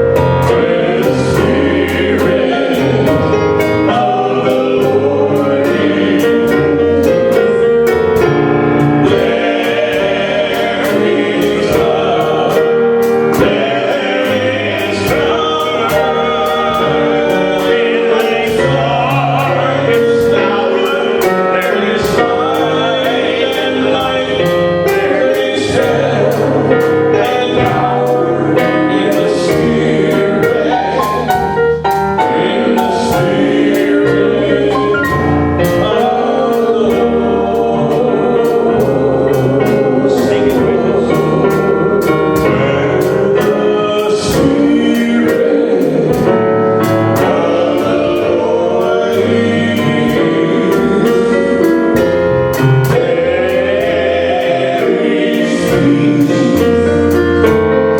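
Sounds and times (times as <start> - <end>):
choir singing gospel music: 0.0 - 57.9.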